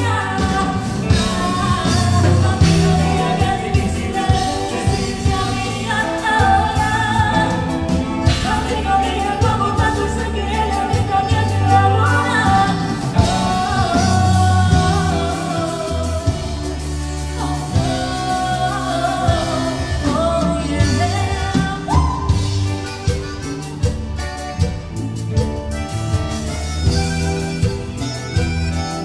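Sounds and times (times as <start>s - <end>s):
woman singing: 0.0s - 23.2s
accordion: 0.0s - 29.0s
bass guitar: 0.0s - 29.0s
drums: 0.0s - 29.0s.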